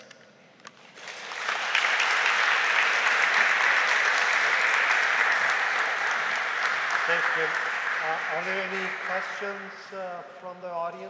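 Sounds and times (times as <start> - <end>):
audience applauding: 0.8 - 10.2.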